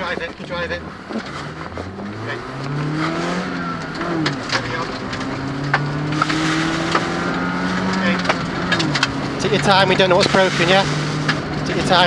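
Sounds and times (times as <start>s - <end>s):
car engine revving: 0.0s - 12.0s
knocks and rattles from car: 0.0s - 12.0s.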